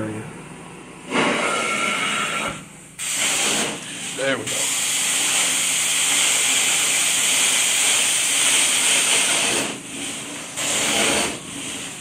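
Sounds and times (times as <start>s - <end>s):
carpet cleaner wand rushing hiss: 1.1s - 12.0s.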